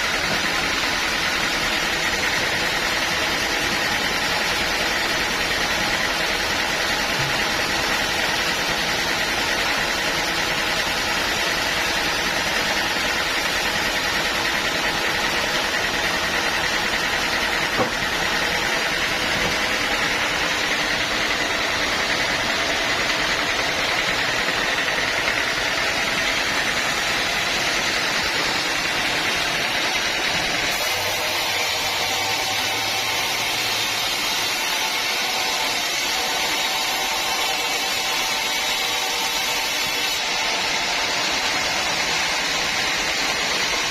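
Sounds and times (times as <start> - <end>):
sawmill machinery humming: 0.0 - 43.9.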